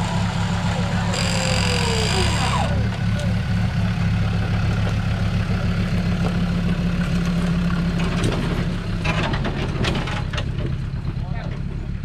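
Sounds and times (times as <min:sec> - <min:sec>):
off-road truck engine at low revs: 0:00.0 - 0:12.0.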